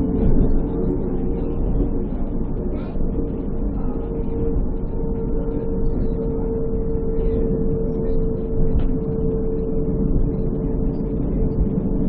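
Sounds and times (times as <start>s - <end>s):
steady electric whine: 0.0s - 12.0s
tram rolling rumble: 0.0s - 12.0s.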